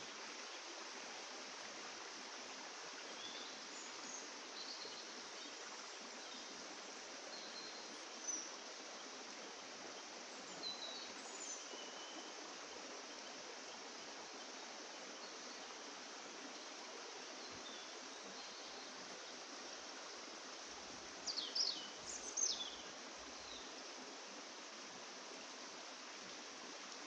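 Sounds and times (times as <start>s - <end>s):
steady soft hiss: 0.0s - 27.0s.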